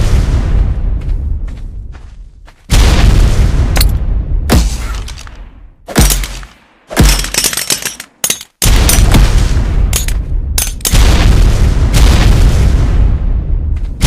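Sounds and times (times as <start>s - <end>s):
grenade explosions: 0.0s - 1.4s, 2.7s - 14.0s.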